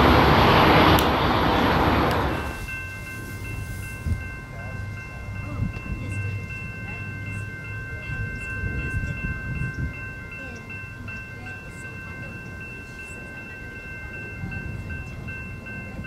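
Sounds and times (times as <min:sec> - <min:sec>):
railroad crossing bells ringing: 0:00.0 - 0:16.0.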